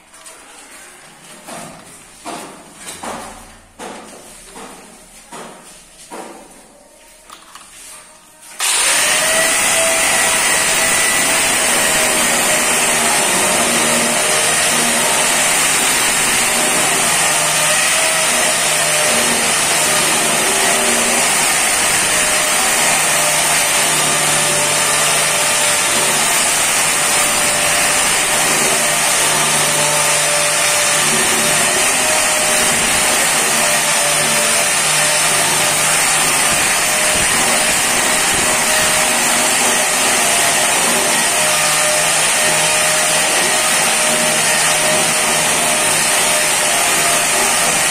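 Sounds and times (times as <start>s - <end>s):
angle grinder whining on stone: 8.6s - 47.9s.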